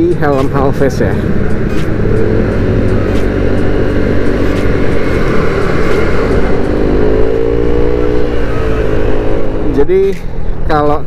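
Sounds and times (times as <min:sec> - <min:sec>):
wind and road rush: 0:00.0 - 0:11.0
scooter engine running: 0:00.2 - 0:10.0.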